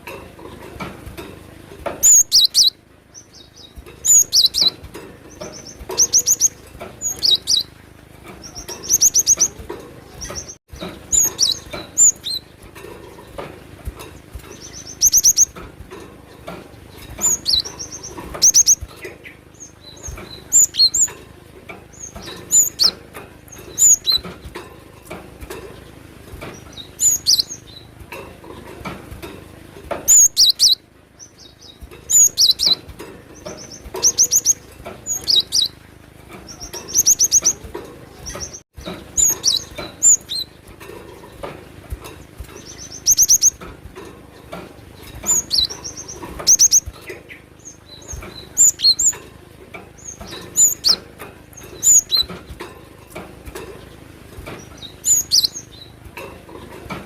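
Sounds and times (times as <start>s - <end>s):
bird chirping song: 0.1s - 28.8s, 29.8s - 57.0s.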